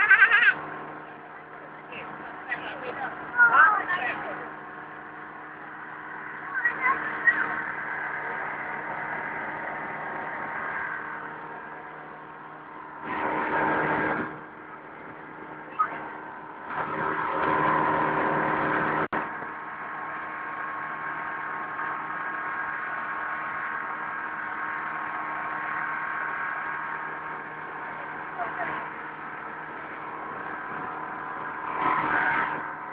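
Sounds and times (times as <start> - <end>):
speedboat engine droning: 0.0 - 32.9.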